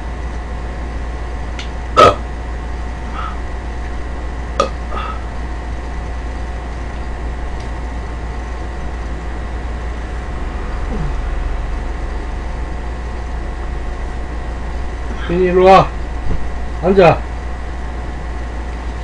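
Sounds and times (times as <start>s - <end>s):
low hum with hiss: 0.0s - 19.0s.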